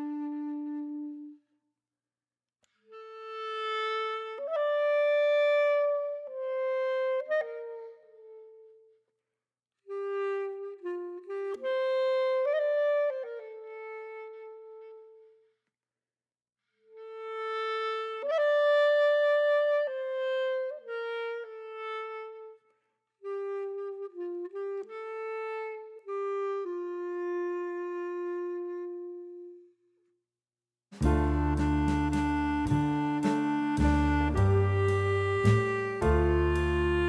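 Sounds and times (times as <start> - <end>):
slow solo wind instrument melody: 0.0 - 1.5, 2.7 - 9.0, 9.8 - 15.5, 16.8 - 30.1, 31.0 - 37.0.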